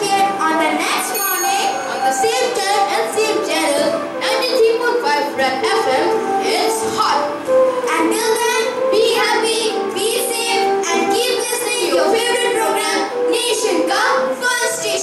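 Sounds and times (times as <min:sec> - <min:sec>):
musical accompaniment: 0:00.0 - 0:15.0.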